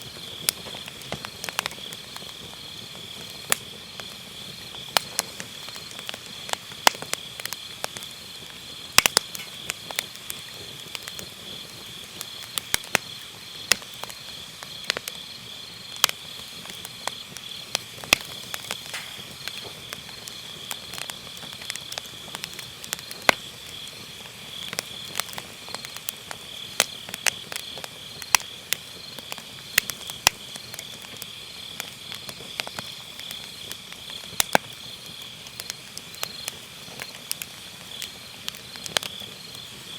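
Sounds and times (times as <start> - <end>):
firewood crackling and popping: 0.0 - 39.9
night insects chirring: 0.0 - 39.9.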